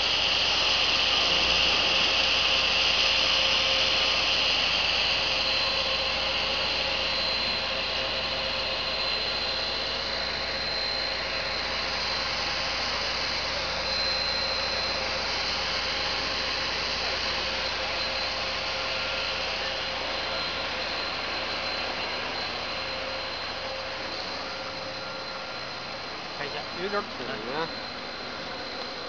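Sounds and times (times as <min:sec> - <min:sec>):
machine hiss and hum: 0:00.0 - 0:29.0
thin high whine: 0:00.0 - 0:29.0.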